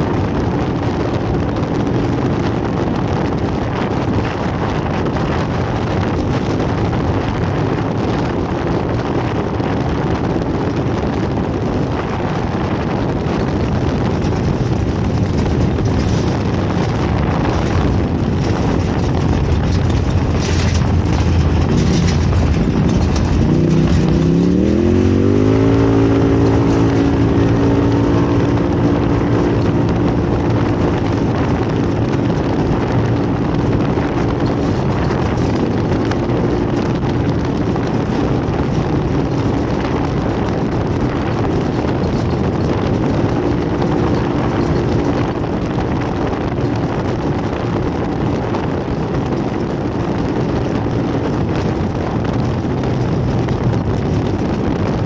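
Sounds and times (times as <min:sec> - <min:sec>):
constant rushing noise: 0:00.0 - 0:55.0
race vehicle engine accelerating: 0:00.1 - 0:55.0.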